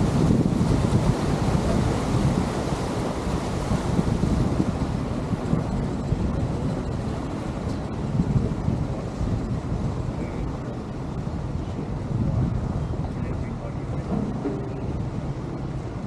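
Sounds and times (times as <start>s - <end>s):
water rushing: 0.0s - 16.0s
wind buffeting microphone: 0.0s - 16.0s.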